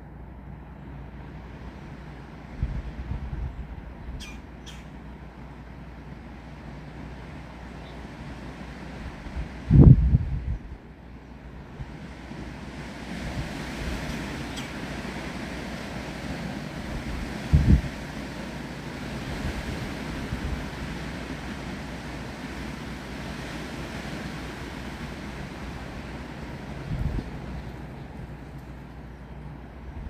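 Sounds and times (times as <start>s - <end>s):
wind through trees: 0.0s - 30.0s
wind buffeting microphone: 2.4s - 4.9s, 6.5s - 10.9s, 11.5s - 30.0s.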